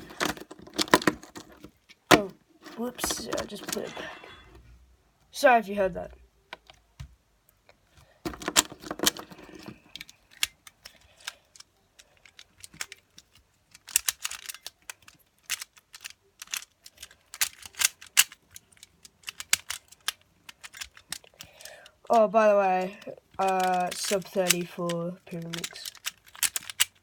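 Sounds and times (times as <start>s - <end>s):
plastic puzzle clicking: 0.0s - 4.1s, 7.7s - 27.0s.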